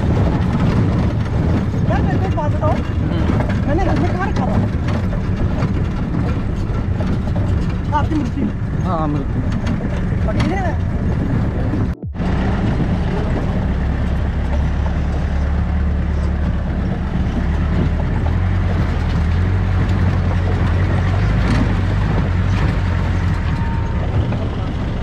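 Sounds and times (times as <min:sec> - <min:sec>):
jeep engine droning: 0:00.0 - 0:25.0.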